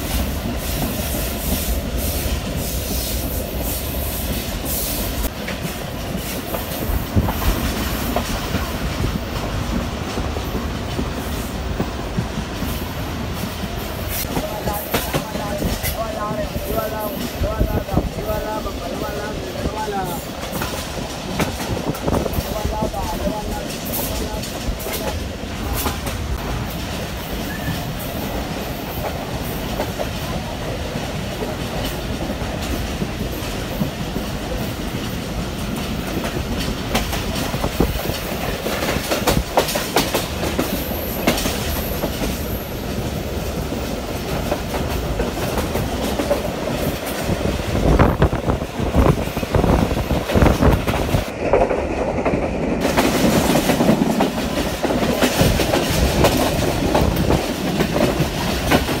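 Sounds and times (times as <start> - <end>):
train coach rumble: 0.0 - 59.0.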